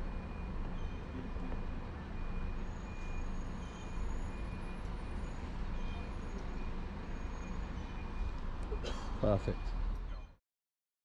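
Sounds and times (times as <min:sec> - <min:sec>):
engine rumble: 0:00.0 - 0:10.3.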